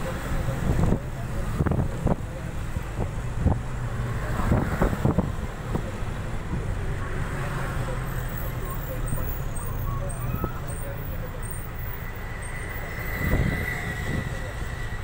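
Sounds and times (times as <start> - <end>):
wind at window: 0.0 - 8.1, 9.0 - 15.0
bus engine and road rumble: 0.0 - 15.0.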